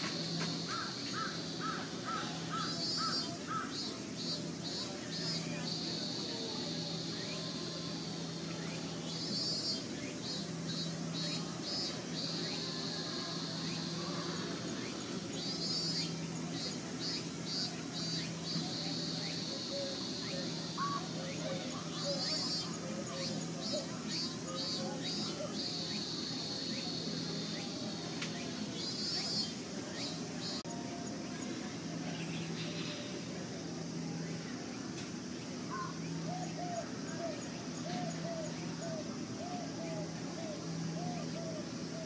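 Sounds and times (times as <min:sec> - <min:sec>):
cicadas chirring: 0:00.0 - 0:42.0.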